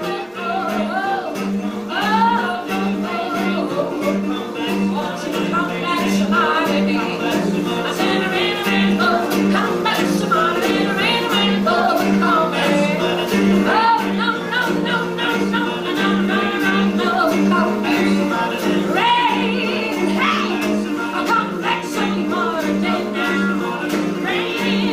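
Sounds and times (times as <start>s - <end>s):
acoustic guitar: 0.0s - 24.9s
woman and man singing together: 0.0s - 24.9s.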